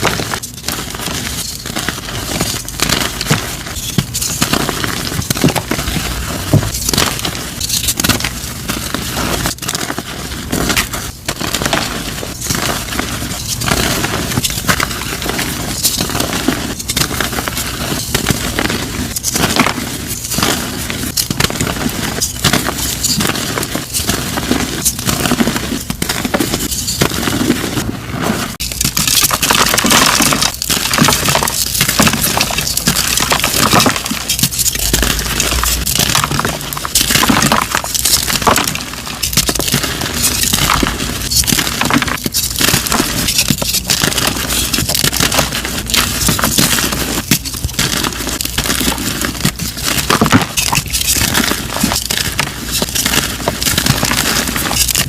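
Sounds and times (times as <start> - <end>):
chalk crunching and crackling: 0.0 - 55.0.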